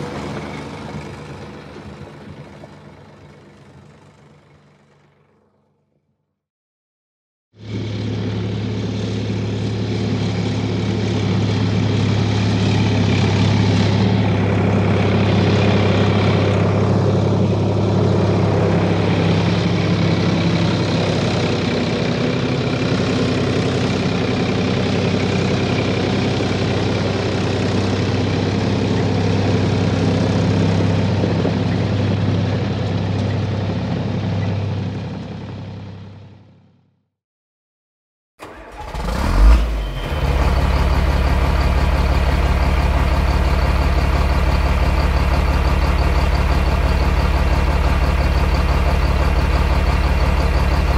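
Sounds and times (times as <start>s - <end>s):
heavy engine humming: 0.0s - 5.9s, 7.6s - 36.9s, 39.5s - 50.9s.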